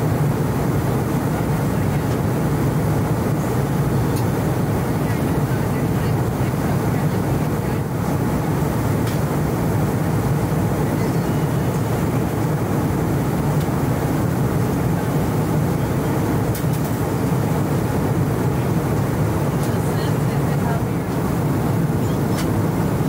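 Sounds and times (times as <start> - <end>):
airliner cabin noise: 0.0 - 23.0.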